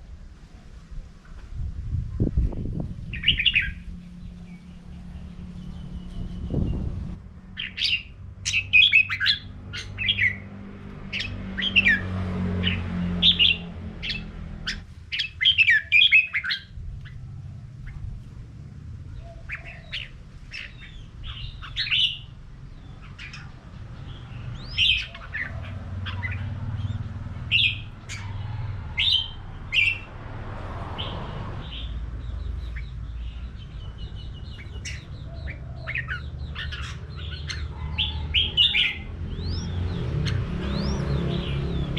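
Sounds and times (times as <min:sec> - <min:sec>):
birds singing warbled phrases: 0:02.3 - 0:41.9.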